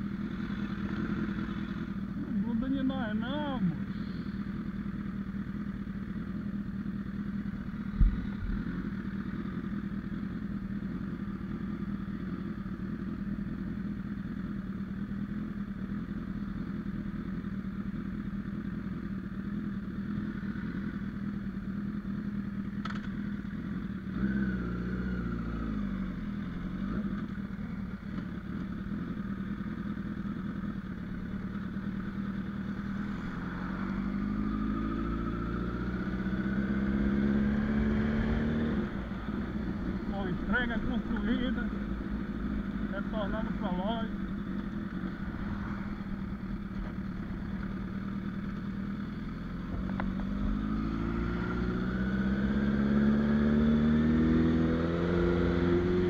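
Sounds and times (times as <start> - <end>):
motorcycle engine idling: 0.0 - 52.5
motorcycle engine revving: 0.0 - 56.0.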